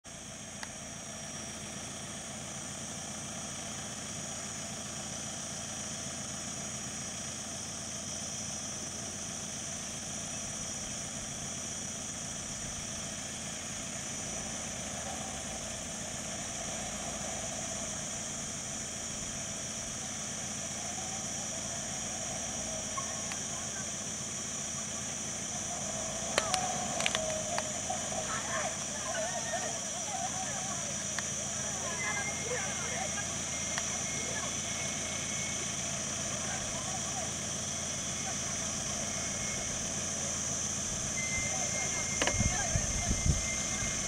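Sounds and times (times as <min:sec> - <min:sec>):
engine idling: 0:00.0 - 0:44.0
high-pitched hiss: 0:07.6 - 0:44.0.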